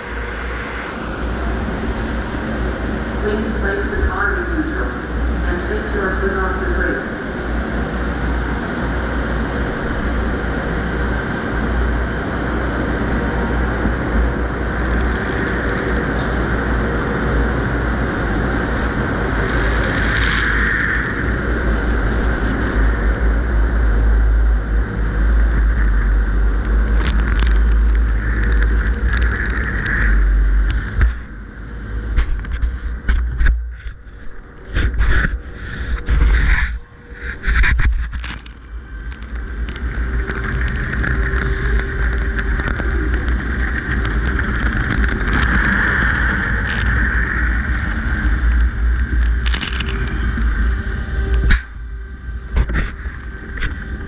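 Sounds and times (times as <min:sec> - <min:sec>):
deep rumble: 0:00.0 - 0:54.0.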